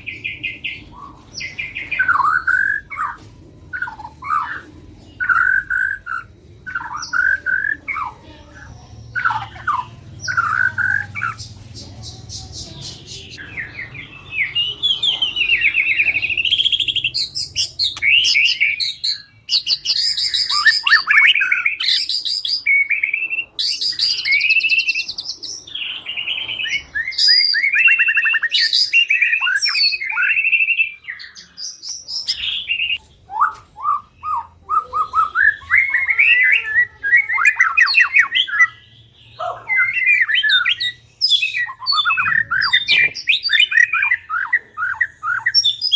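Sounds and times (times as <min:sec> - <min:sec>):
songbird singing whistles and trills: 0:00.0 - 0:45.9.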